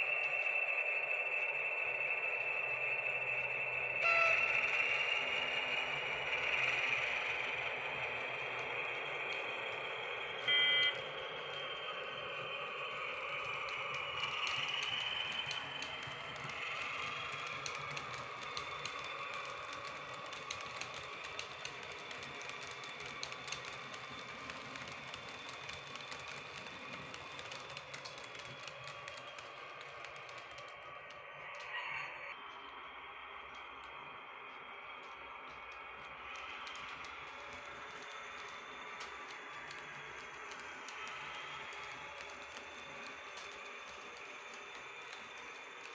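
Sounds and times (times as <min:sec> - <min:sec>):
model train motor whine: 0:00.0 - 0:45.9
wheels clicking on rails: 0:00.0 - 0:45.9.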